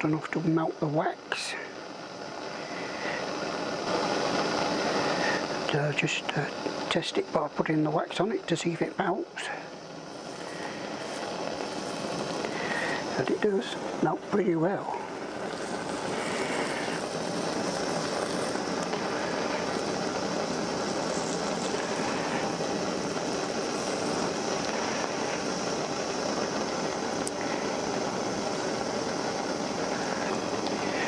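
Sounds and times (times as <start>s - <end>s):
blowtorch flame hissing: 0.0s - 31.0s.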